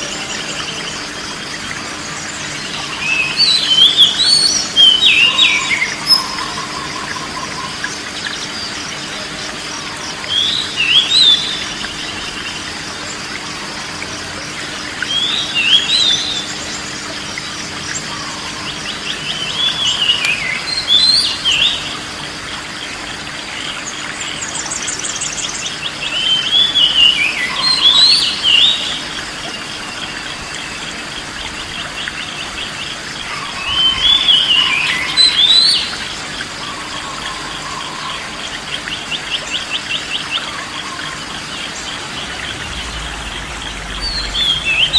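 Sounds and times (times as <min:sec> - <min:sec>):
songbird warbling: 0:00.0 - 0:14.4, 0:15.0 - 0:44.9
insect trilling: 0:00.0 - 0:44.9.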